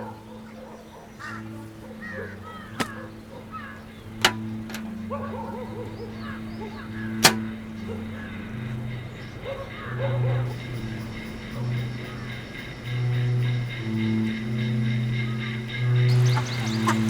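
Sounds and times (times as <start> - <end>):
background music with drone: 0.0 - 17.0.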